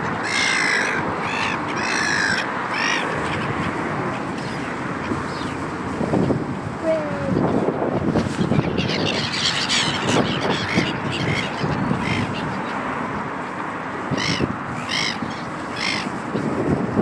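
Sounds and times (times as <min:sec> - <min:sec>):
gulls calling: 0:00.0 - 0:16.7
water noise: 0:00.0 - 0:17.0
wind: 0:00.0 - 0:17.0.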